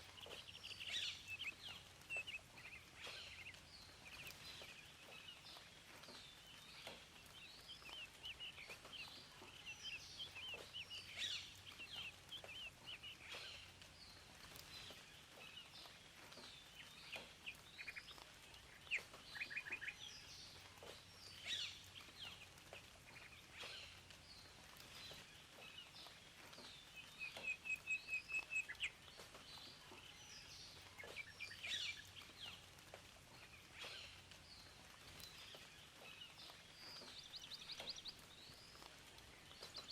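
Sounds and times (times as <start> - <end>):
birds chirping and singing: 0.0 - 39.9
faint background hiss: 0.0 - 39.9.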